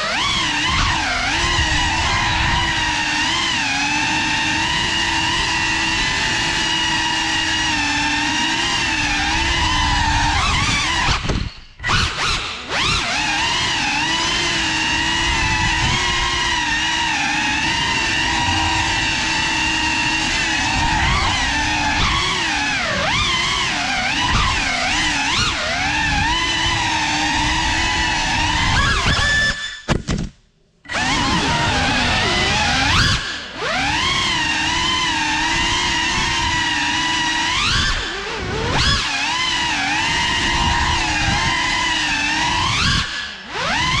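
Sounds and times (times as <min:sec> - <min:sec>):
drone motors whining: 0:00.0 - 0:30.0, 0:30.7 - 0:44.0.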